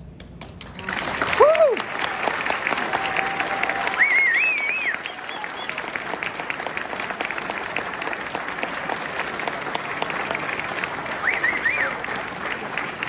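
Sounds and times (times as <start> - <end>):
audience applauding: 0.6 - 13.0.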